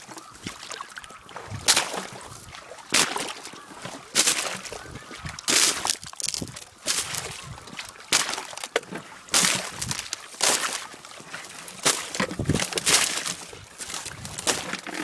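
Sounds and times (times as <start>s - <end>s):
footsteps crunching through snow: 0.0s - 8.7s, 9.3s - 15.0s
dry stalks rustling: 0.0s - 15.0s.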